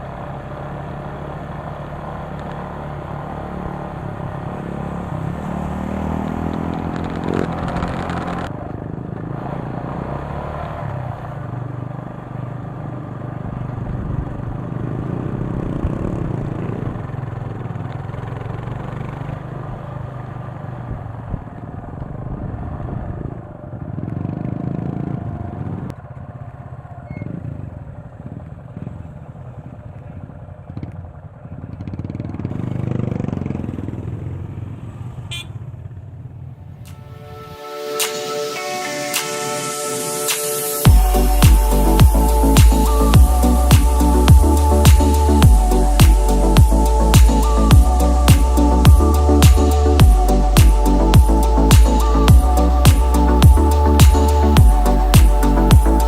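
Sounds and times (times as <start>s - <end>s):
motorcycle engine accelerating: 0.0s - 36.6s, 40.9s - 56.0s.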